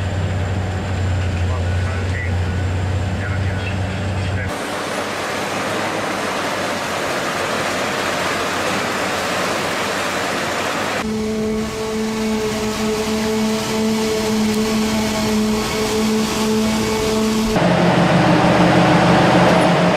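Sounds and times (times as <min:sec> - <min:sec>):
machine drone: 0:00.0 - 0:19.9
rushing roar: 0:00.0 - 0:19.9.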